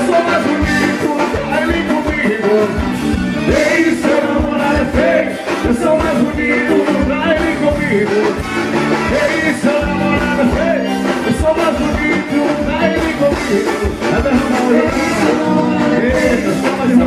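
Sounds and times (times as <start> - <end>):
live band music: 0.0 - 17.0
steady drum beat: 0.0 - 17.0.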